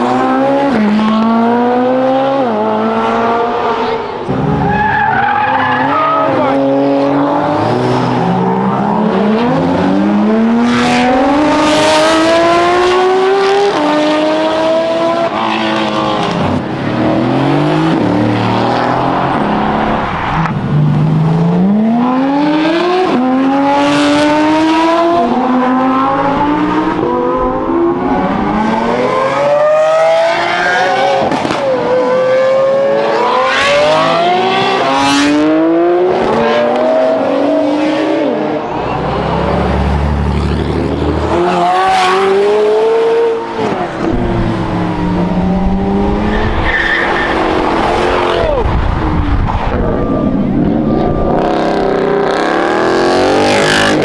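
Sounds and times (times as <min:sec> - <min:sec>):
cars accelerating hard past: 0:05.6 - 0:54.0.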